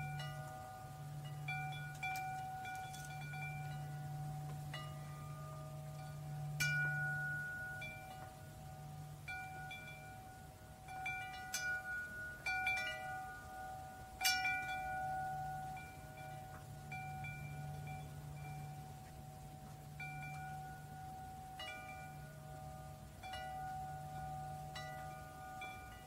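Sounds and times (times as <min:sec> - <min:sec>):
metal wind chime ringing: 0:00.0 - 0:26.0
steady low hum: 0:00.0 - 0:26.0.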